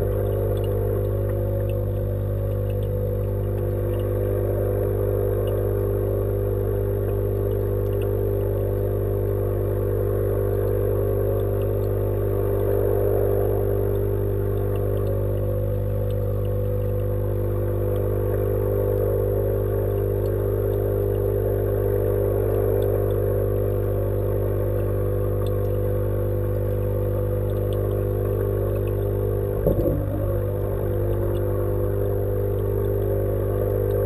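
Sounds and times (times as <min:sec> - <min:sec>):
electric pump hum: 0:00.0 - 0:34.0
faint ticks: 0:00.0 - 0:34.0.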